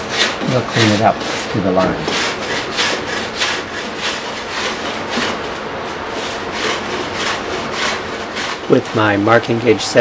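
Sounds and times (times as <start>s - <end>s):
hand plane shaving wood: 0.0s - 8.9s.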